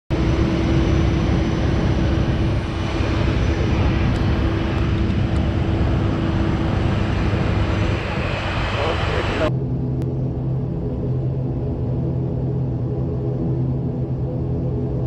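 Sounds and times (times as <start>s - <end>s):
engine whine: 0.1s - 15.0s
turboprop engine rumble: 0.1s - 15.0s.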